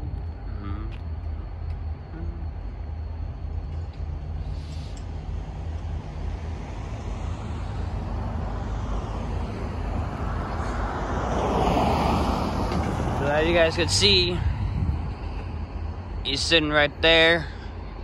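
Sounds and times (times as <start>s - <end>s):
locomotive diesel rumble: 0.0s - 11.8s, 12.4s - 18.0s
road traffic noise: 0.0s - 18.0s.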